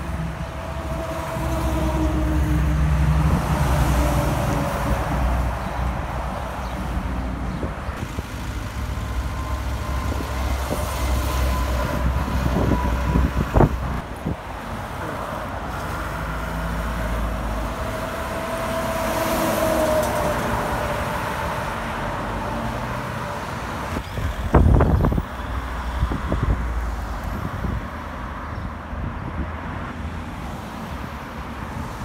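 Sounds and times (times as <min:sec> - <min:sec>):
highway traffic passing: 0:00.0 - 0:32.0.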